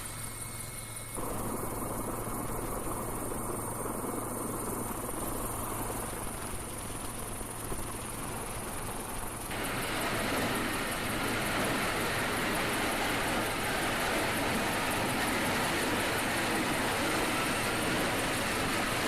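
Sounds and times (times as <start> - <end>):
aircraft engine rush: 0.0 - 19.0.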